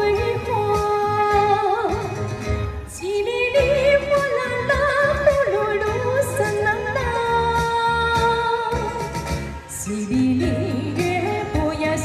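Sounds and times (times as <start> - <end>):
backing track music: 0.0 - 12.0
woman singing pop song: 0.0 - 12.0.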